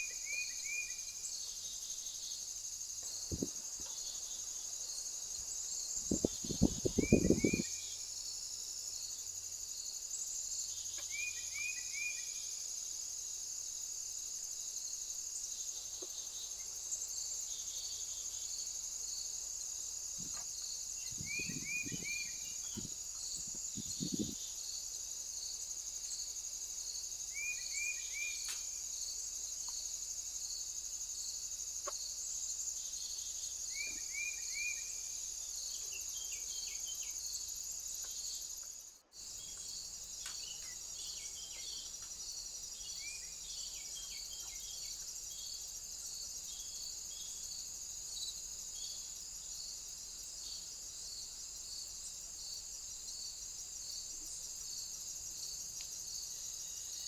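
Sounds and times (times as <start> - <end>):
high-pitched insect chorus: 0.0 - 57.0
pulsing insect chirp: 0.0 - 57.0.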